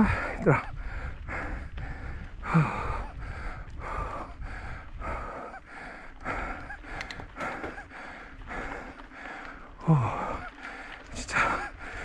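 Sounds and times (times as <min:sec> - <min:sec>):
person breathing hard: 0:00.0 - 0:12.0
steady low rumble: 0:00.0 - 0:12.0.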